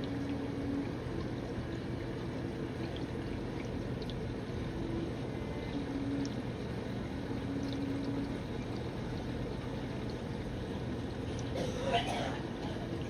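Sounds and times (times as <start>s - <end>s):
faint hum: 0.0s - 13.0s
trickling aquarium water: 0.0s - 13.0s.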